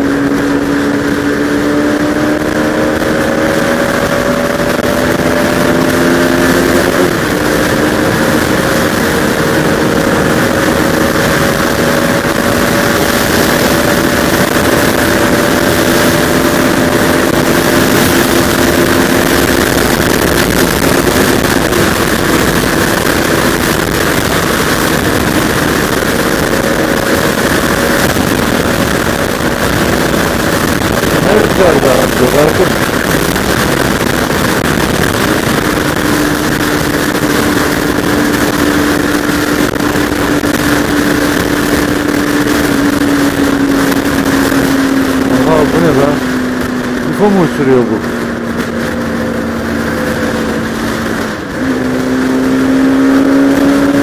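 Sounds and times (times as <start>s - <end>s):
motorcycle engine: 0.0s - 54.0s
wind rush on microphone: 0.0s - 54.0s.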